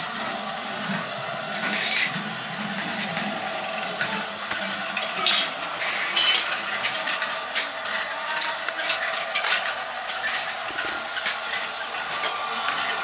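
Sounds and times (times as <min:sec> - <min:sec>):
toy train motor whirring: 0:00.0 - 0:13.0
train clicking on plastic track: 0:00.0 - 0:13.0.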